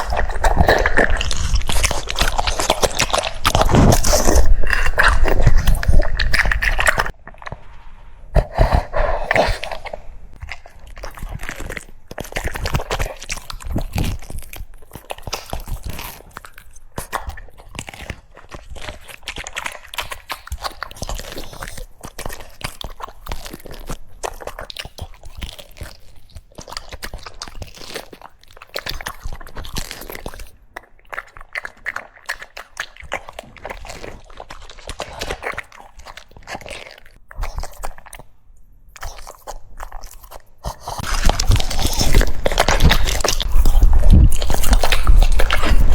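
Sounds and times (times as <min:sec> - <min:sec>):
dog crunching food: 0:00.0 - 0:07.8, 0:08.4 - 0:45.9.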